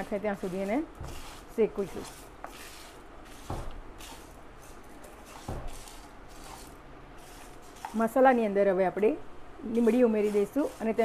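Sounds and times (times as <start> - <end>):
spatula scraping dry ingredients in pan: 0.0 - 8.4, 9.7 - 11.0.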